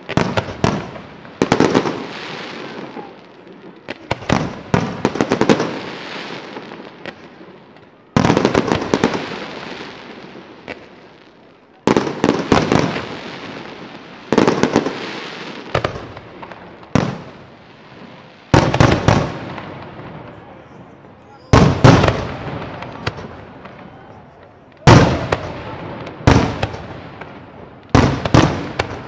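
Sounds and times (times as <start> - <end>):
fireworks bangs: 0.0 - 29.0
fireworks crackles: 0.0 - 29.0.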